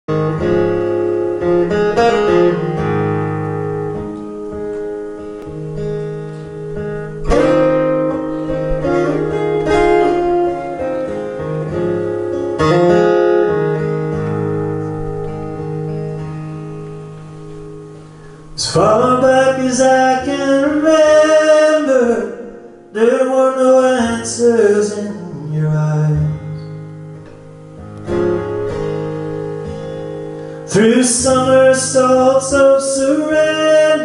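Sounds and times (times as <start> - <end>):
acoustic guitar playing: 0.1 - 34.0.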